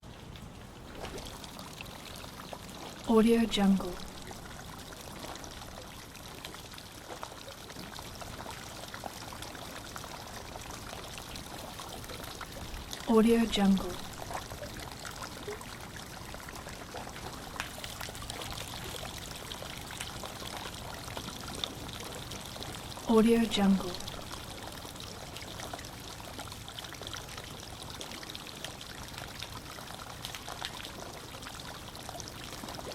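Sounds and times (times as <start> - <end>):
small splashes and drips: 0.0 - 3.1, 3.9 - 13.1, 13.9 - 23.1, 23.9 - 32.9
water running and trickling: 0.0 - 3.1, 3.8 - 13.1, 13.8 - 23.1, 23.9 - 32.9.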